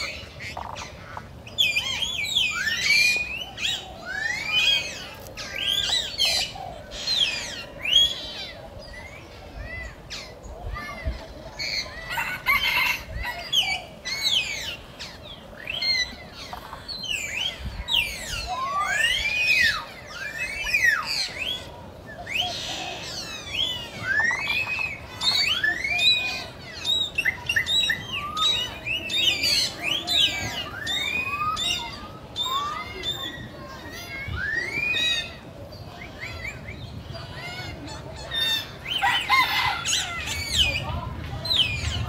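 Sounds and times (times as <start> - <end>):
chorus of high animal calls: 0.0 - 42.0.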